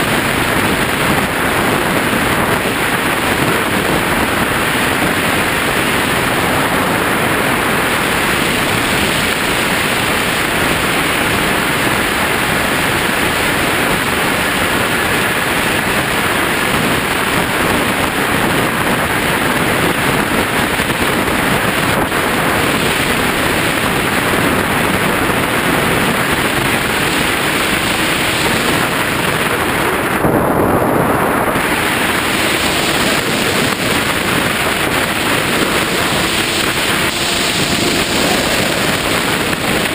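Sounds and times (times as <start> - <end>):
air rushing over microphone: 0.0 - 39.9
faint propeller whine: 0.0 - 39.9.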